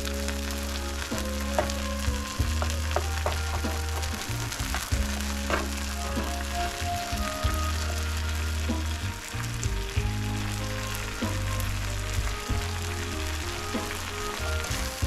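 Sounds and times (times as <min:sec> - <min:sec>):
vegetable sizzling in a pan: 0:00.0 - 0:15.0.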